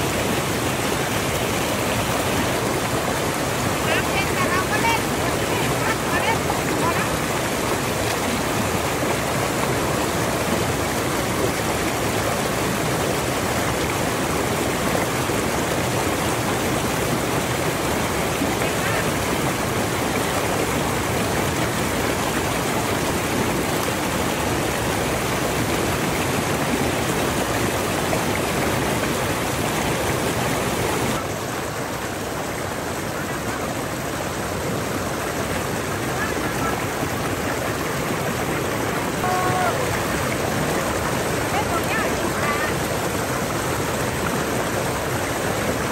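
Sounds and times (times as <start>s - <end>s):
creek rushing over rocks: 0.0s - 45.9s.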